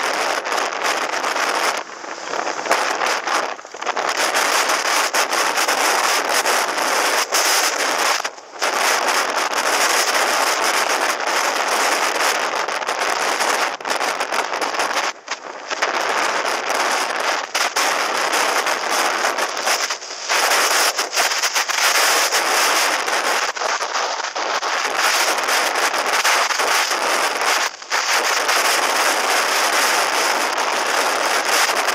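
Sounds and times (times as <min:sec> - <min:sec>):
wind rushing over microphone: 0:00.0 - 0:31.9.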